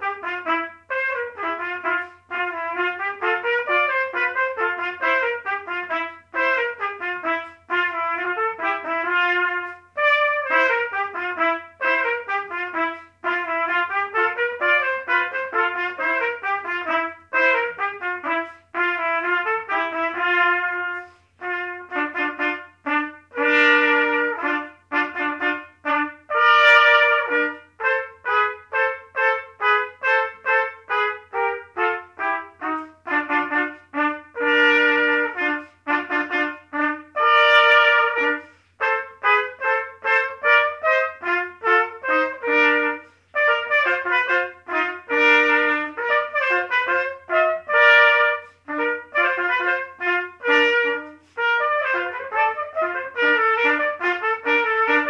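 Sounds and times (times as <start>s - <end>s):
trumpet playing melody: 0.0s - 55.0s.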